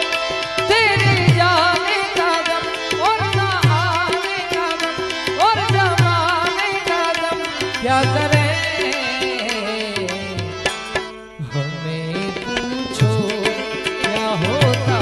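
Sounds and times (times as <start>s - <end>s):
tabla beat: 0.0s - 15.0s.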